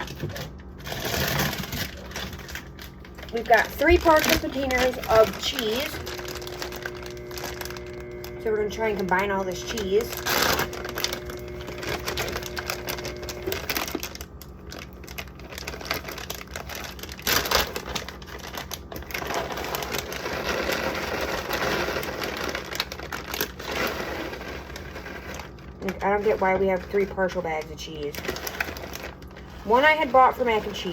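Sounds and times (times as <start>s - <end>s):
plastic bags crinkling: 0.0s - 30.9s.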